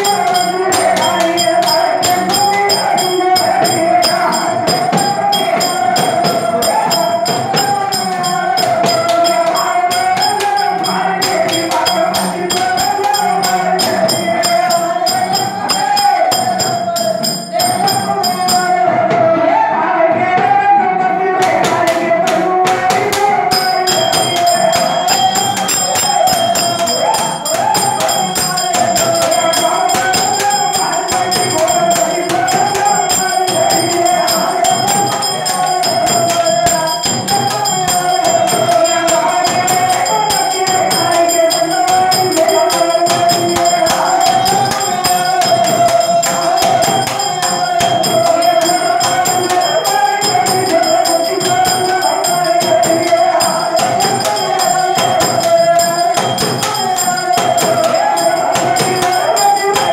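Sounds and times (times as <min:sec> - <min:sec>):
constant jingling ring: 0:00.0 - 0:18.9, 0:23.5 - 0:59.9
bells and pot drum percussion: 0:00.0 - 0:59.9
person singing: 0:00.0 - 0:59.9.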